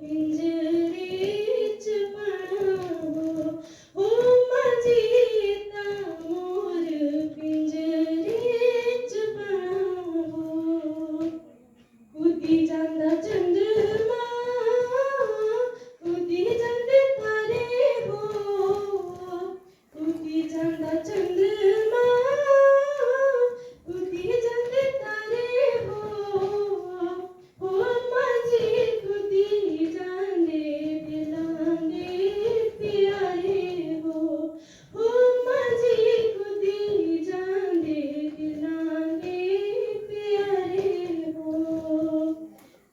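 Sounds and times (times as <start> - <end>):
girl singing unaccompanied: 0.0 - 42.9.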